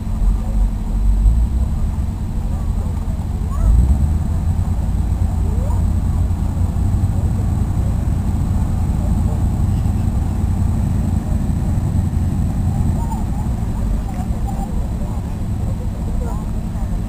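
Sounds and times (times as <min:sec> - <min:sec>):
boat engine rumble: 0:00.0 - 0:17.0.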